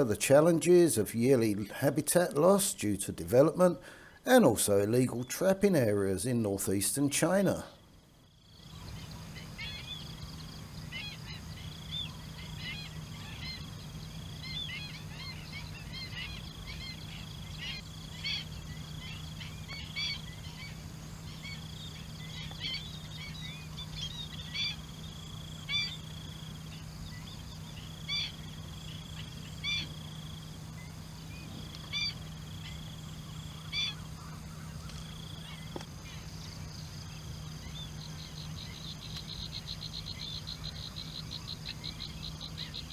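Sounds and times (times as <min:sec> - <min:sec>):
high insect drone: 0:00.0 - 0:42.9
low steady hum: 0:00.0 - 0:42.9.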